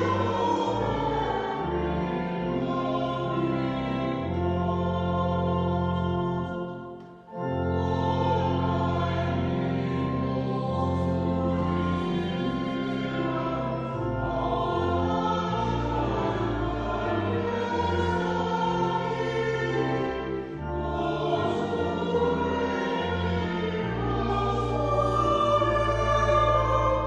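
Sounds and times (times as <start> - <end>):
group singing a hymn: 0.0 - 7.0, 7.6 - 27.0.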